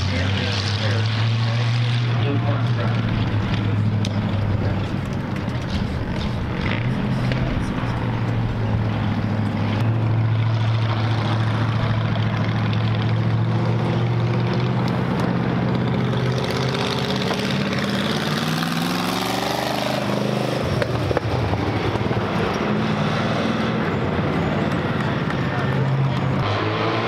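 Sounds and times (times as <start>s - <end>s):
race car engine: 0.0s - 27.0s.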